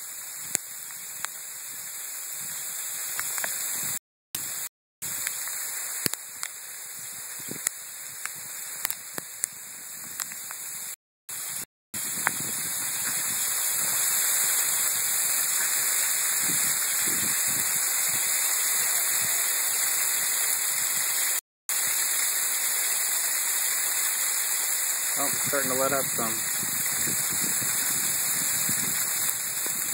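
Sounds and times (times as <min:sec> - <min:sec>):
sleet and rain hissing: 0:00.0 - 0:29.9.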